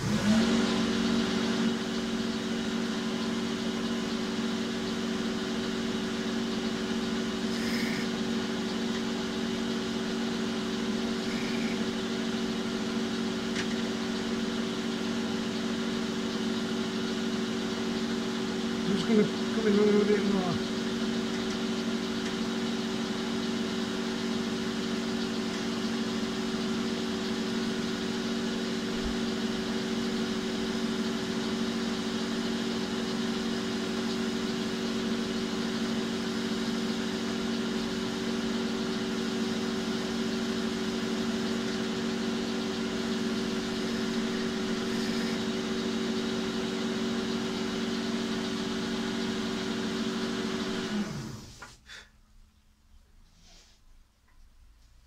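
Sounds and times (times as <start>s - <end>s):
metal lathe humming: 0.0s - 51.7s
lathe winding down: 0.0s - 51.8s.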